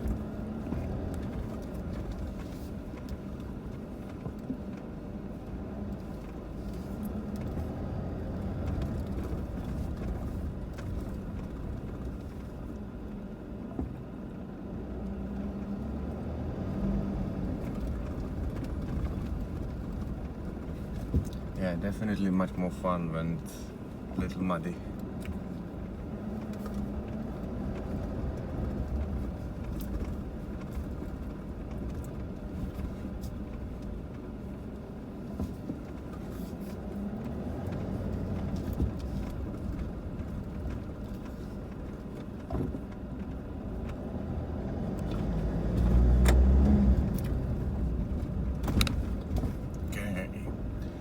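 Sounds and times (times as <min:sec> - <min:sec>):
vehicle engine and road rumble: 0:00.0 - 0:51.0.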